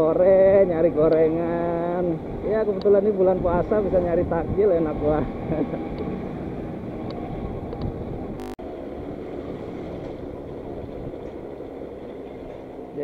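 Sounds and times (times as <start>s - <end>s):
road and wind noise: 0.0s - 13.0s
scooter engine cruising: 0.3s - 13.0s.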